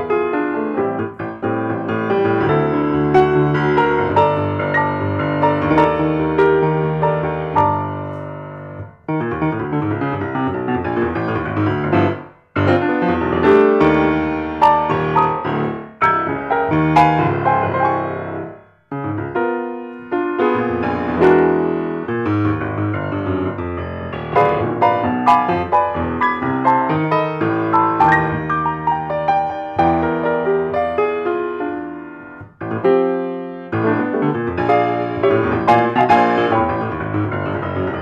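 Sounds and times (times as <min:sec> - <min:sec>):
grand piano playing: 0:00.0 - 0:38.0.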